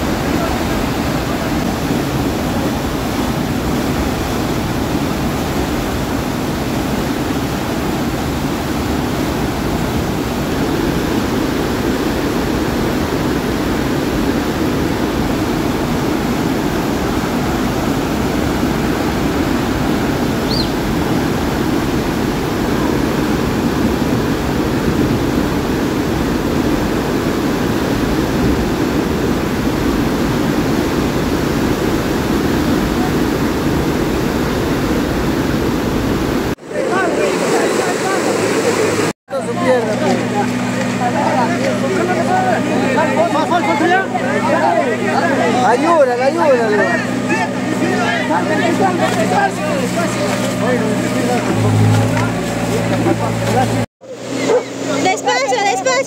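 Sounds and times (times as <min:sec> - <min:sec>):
floodwater rushing down channel: 0:00.0 - 0:56.0.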